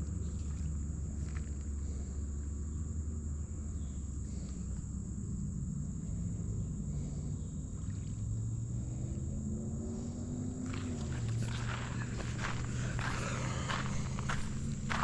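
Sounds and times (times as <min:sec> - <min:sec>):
continuous low rumble: 0:00.0 - 0:15.0
insects chirring: 0:00.0 - 0:15.0.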